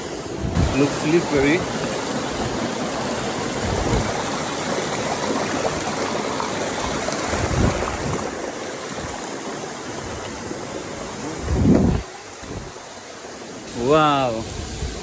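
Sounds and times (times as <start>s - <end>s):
waterfall rushing water: 0.0s - 15.0s.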